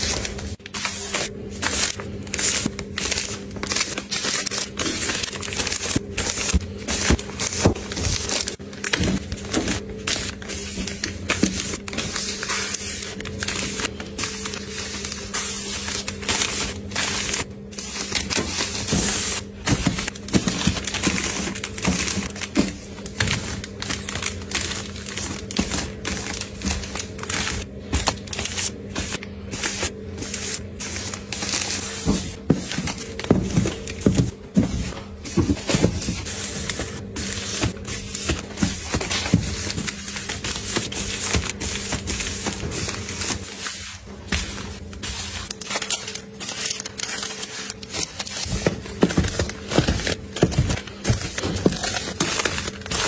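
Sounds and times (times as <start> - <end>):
plastic film crinkling: 0.0 - 34.3, 34.9 - 53.0.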